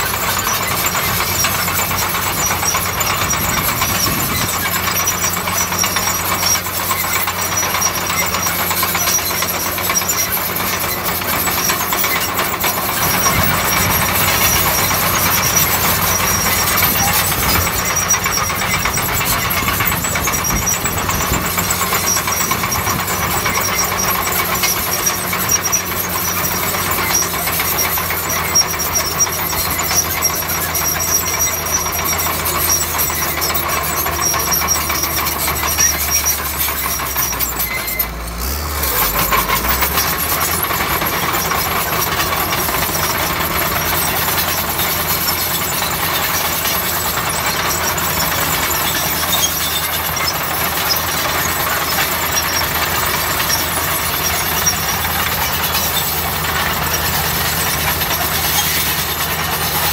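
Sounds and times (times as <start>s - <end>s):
bulldozer diesel engine running: 0.0s - 59.9s
metallic clatter: 0.0s - 59.9s.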